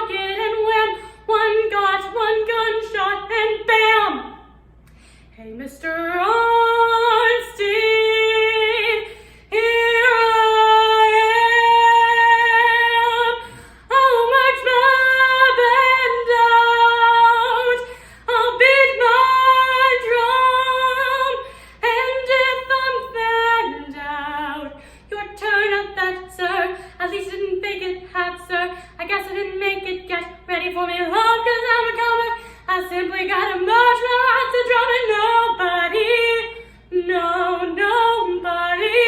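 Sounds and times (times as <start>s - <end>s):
woman singing unaccompanied: 0.0s - 4.4s, 5.4s - 39.0s.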